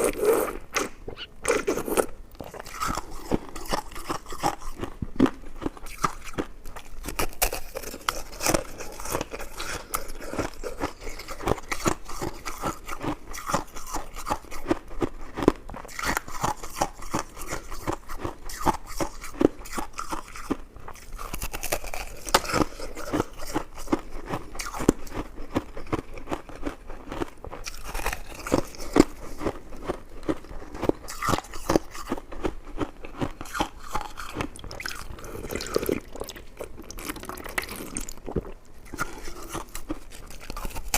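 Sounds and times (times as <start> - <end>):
close-miked chewing and biting: 0.0 - 40.9.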